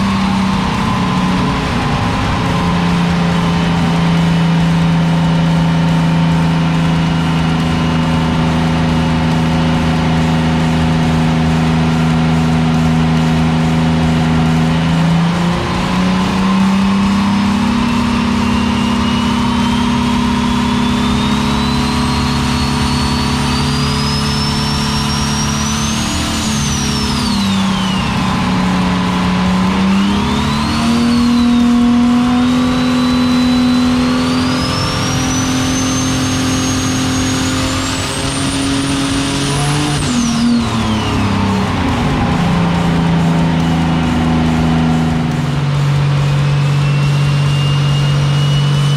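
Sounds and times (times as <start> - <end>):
car engine revving under load: 0.0 - 48.9.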